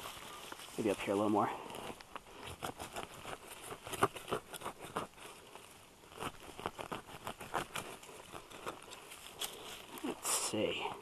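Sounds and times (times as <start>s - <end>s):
digging in soil and dry leaves: 0.0s - 11.0s.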